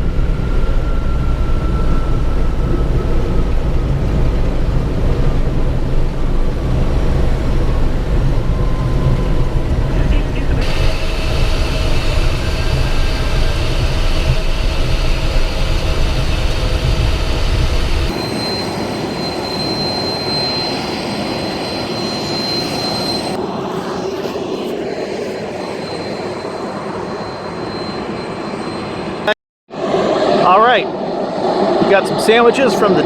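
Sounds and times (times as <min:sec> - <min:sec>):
jet aircraft rumble: 0:00.0 - 0:33.0
jet engine high whine: 0:00.0 - 0:33.0.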